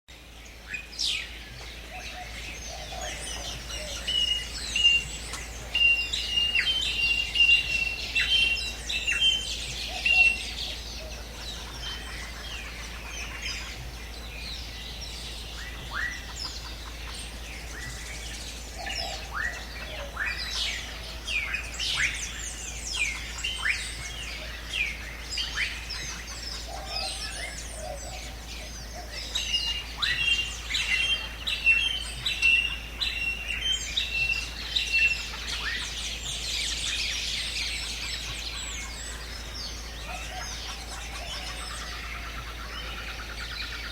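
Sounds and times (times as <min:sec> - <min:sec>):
background hiss: 0:00.1 - 0:43.9
birds chirping and trilling: 0:00.1 - 0:43.9
bird whistling a steady note: 0:00.4 - 0:43.9.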